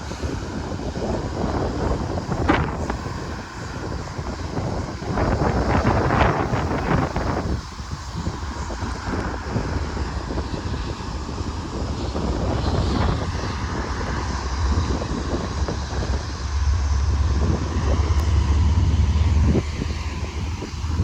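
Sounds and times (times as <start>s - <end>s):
freight train rumbling past: 0.0s - 21.0s
wind buffeting microphone: 0.0s - 21.0s.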